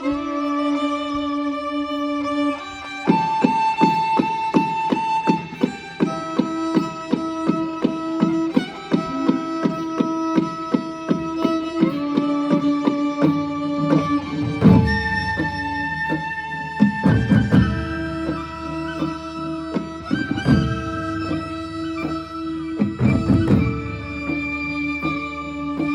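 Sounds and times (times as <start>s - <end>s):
steady drum strokes: 2.6s - 25.9s.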